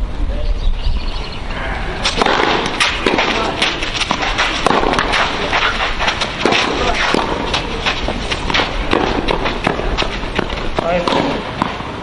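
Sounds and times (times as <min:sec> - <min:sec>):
steady low rumble: 0:00.0 - 0:11.6
tennis ball hits: 0:02.0 - 0:12.0.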